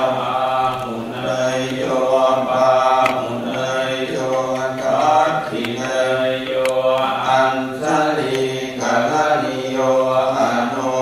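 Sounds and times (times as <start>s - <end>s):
voices chanting in unison: 0.0s - 11.0s.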